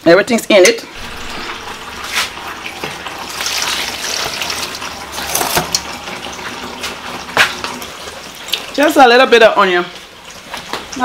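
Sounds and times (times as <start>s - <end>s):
water pouring into metal pot: 0.9s - 11.0s.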